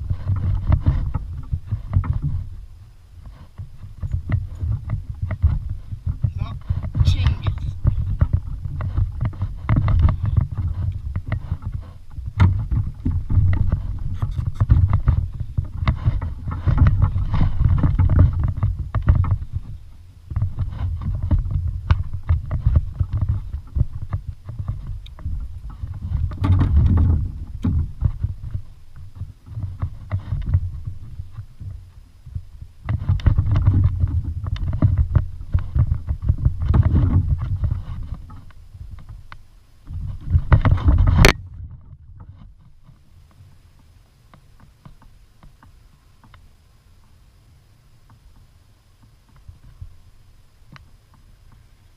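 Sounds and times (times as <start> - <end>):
water rumbling against kayak hull: 0.0 - 51.9.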